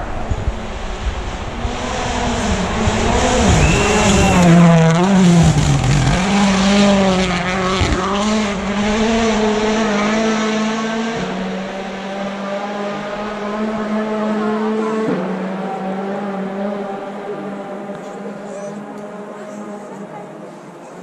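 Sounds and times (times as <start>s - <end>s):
rally car engine revving: 0.0s - 20.4s.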